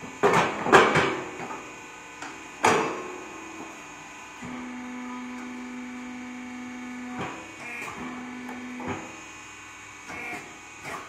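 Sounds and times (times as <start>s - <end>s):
tyre changer motor humming: 0.0s - 11.0s.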